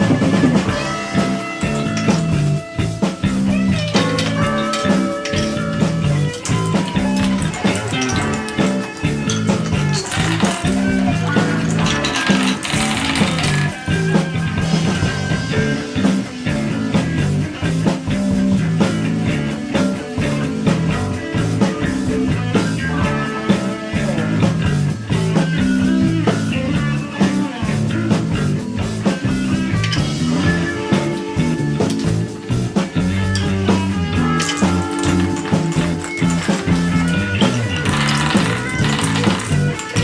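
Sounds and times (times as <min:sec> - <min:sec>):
instrumental rock music: 0:00.0 - 0:40.0.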